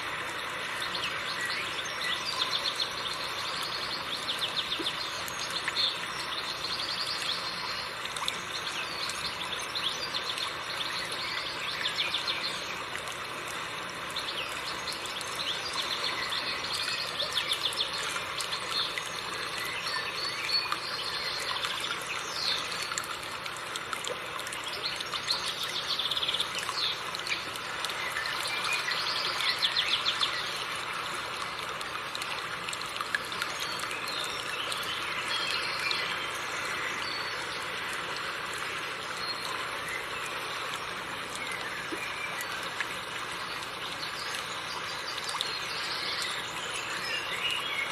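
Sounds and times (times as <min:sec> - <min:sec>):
river water running over rocks: 0:00.0 - 0:47.9
small birds chirping and trilling: 0:00.1 - 0:47.9.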